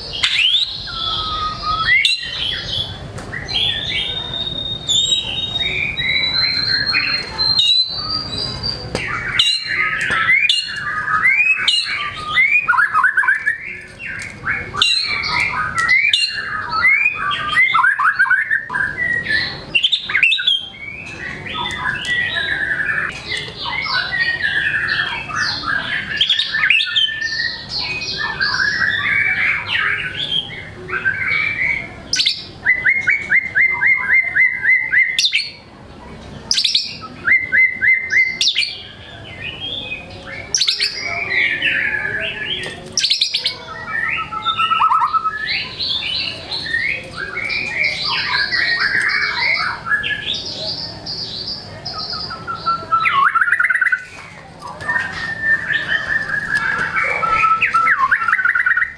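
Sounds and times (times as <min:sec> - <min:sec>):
songbird singing whistles and warbles: 0:00.0 - 0:35.7, 0:36.5 - 0:58.9.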